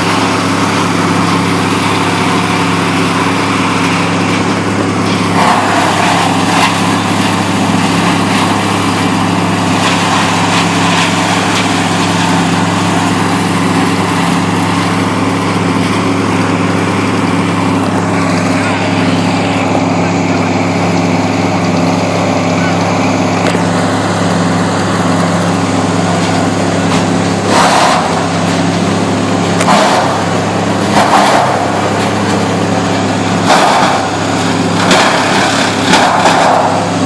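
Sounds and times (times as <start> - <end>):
motor engine running steadily: 0.0 - 37.0.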